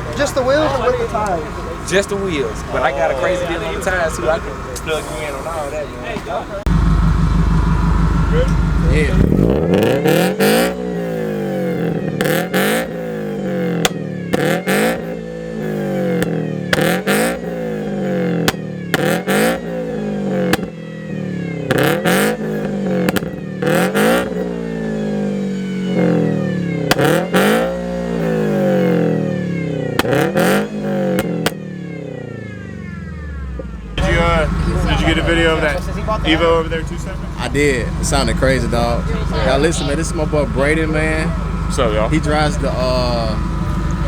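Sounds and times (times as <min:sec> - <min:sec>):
sharp exhaust cracks: 0:00.0 - 0:20.8, 0:21.6 - 0:31.7, 0:33.6 - 0:44.0
car engine revving: 0:00.0 - 0:44.0.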